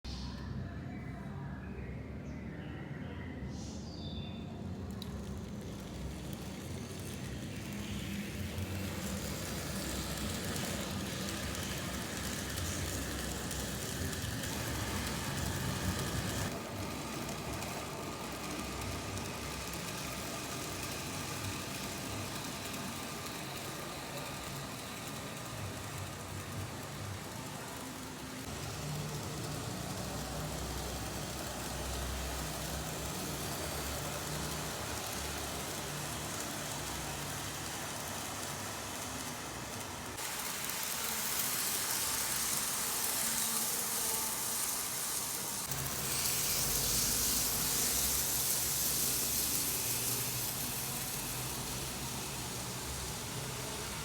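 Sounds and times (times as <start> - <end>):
miniature train mechanical hum: 3.4 - 54.0
hiss: 5.8 - 54.0.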